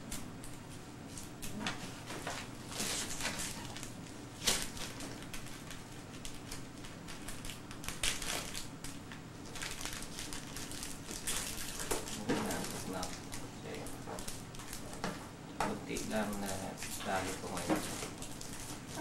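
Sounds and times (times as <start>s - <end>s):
wrapping paper rustling: 1.1s - 15.0s, 16.0s - 19.0s.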